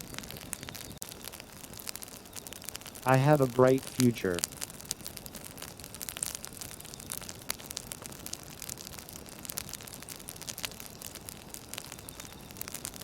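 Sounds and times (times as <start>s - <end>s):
campfire crackling and popping: 0.0s - 13.0s
steady fire hiss: 0.0s - 13.0s.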